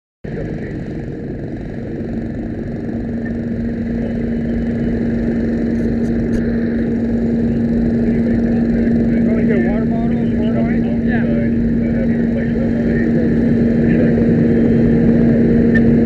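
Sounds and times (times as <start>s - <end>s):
engine rumbling: 0.3s - 16.0s
steady hum: 0.3s - 16.0s.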